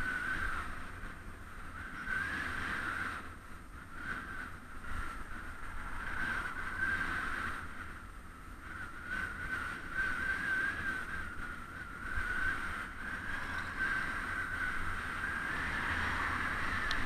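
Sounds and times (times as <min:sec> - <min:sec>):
high wavering whine: 0:00.0 - 0:17.0
wind rumbling on microphone: 0:00.0 - 0:17.0.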